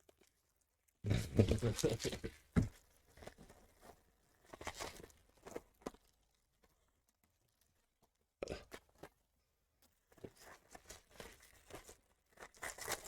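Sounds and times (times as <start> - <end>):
rustling and crinkling wrappers: 0.0 - 13.0.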